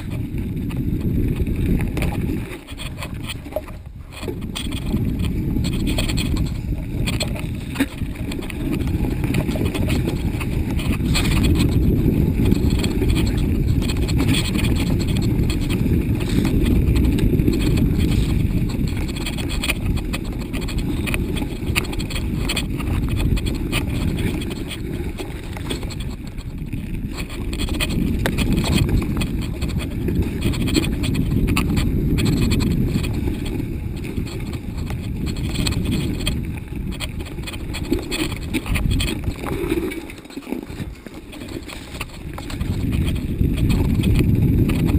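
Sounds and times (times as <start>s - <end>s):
bike rattling and knocking: 0.0s - 44.9s
bike riding rumble: 0.0s - 44.9s.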